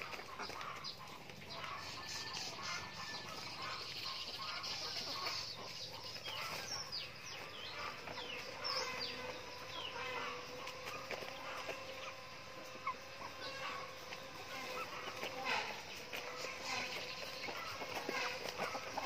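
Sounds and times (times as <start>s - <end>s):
chickens chirping: 0.0s - 19.0s
chickens clucking: 0.0s - 19.0s.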